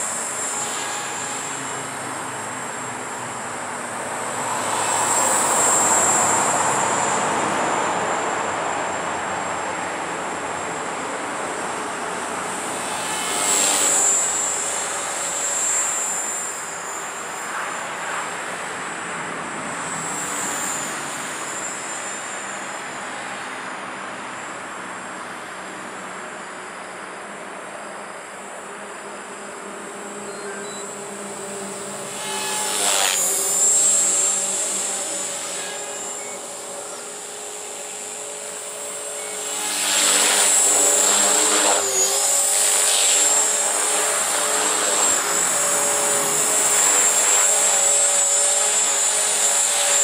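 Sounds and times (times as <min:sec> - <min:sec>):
helicopter rotor whoosh: 0:00.0 - 0:50.0
high motor whine: 0:00.0 - 0:50.0.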